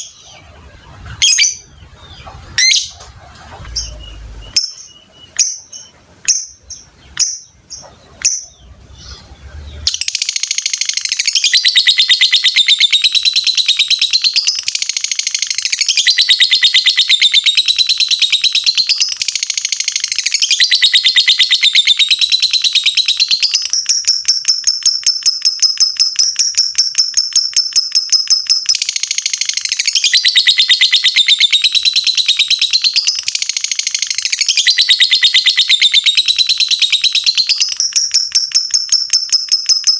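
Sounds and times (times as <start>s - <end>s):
lovebird chattering trill: 0.0s - 39.9s
lovebird chirps: 0.0s - 39.9s.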